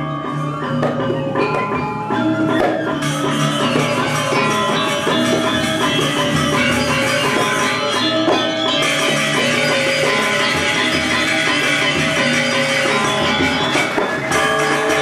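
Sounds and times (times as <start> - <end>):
gamelan playing: 0.0 - 15.0.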